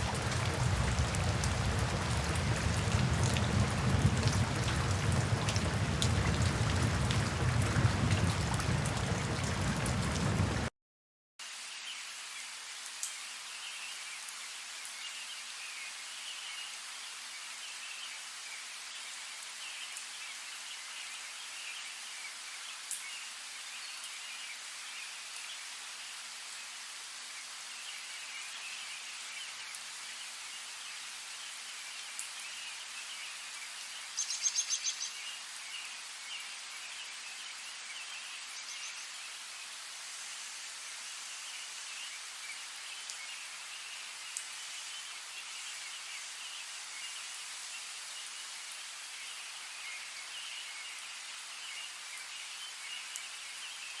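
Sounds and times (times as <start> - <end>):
heavy rain: 0.0 - 10.7, 11.4 - 54.0.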